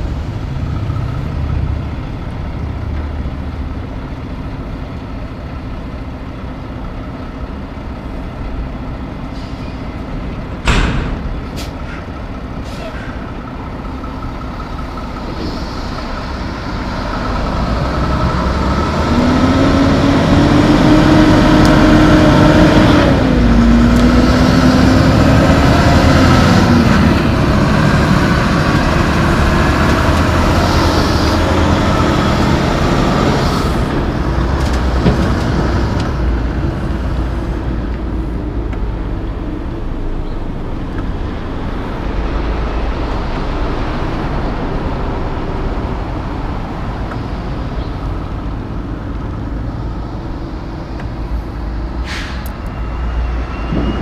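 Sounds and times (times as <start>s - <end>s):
diesel truck engine accelerating: 0.0s - 54.0s.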